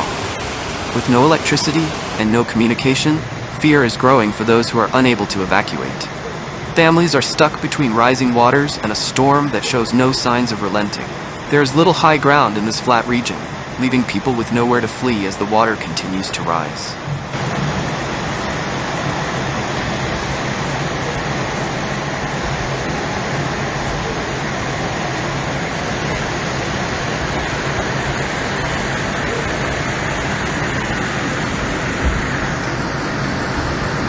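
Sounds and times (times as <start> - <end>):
rushing floodwater roar: 0.0 - 34.0.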